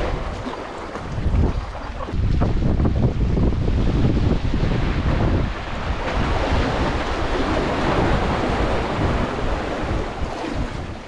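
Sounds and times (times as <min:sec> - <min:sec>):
sea waves splashing on concrete: 0:00.0 - 0:11.0
wind buffeting microphone: 0:00.0 - 0:11.0.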